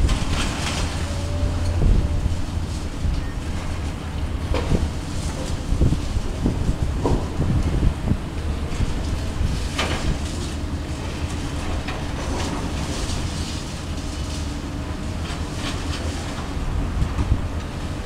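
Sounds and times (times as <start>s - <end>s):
excavator engine rumble: 0.0s - 18.0s.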